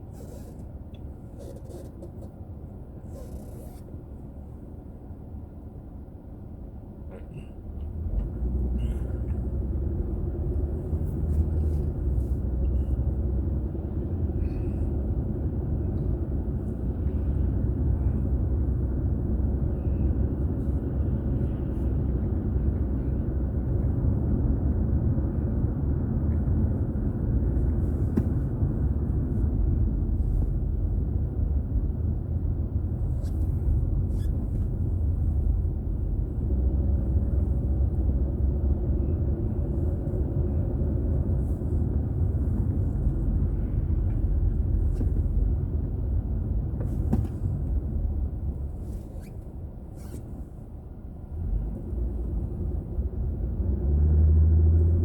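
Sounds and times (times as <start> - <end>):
car driving rumble: 0.0 - 55.0.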